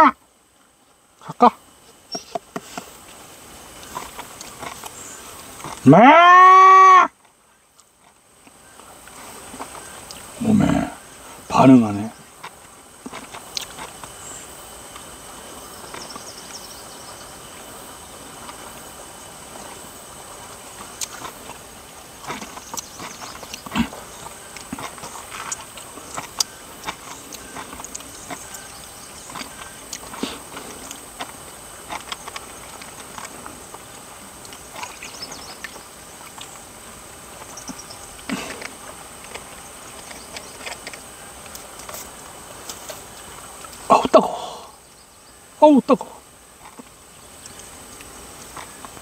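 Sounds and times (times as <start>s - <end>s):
high insect trill: 0.0s - 49.0s.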